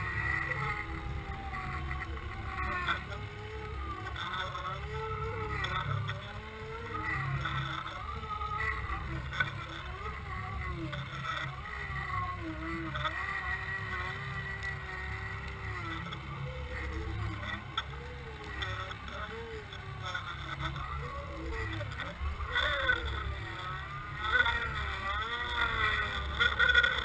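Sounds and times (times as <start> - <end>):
boat motor heard underwater: 0.0 - 27.0
thin wavering whine: 0.0 - 27.0.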